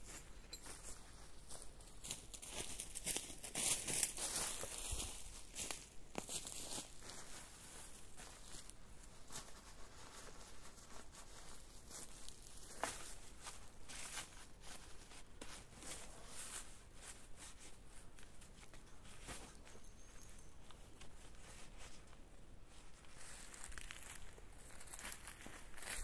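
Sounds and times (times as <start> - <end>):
dry leaves rustling underfoot: 0.0 - 26.0.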